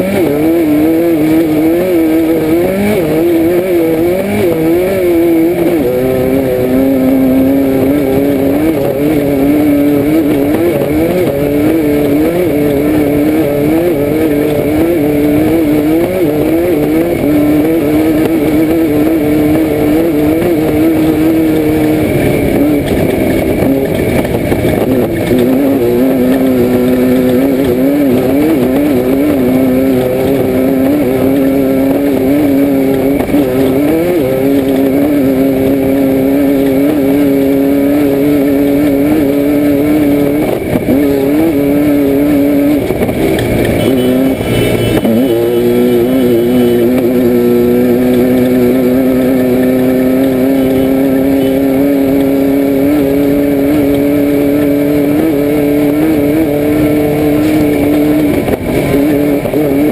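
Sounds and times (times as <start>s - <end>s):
car engine running at high revs: 0.0s - 59.9s.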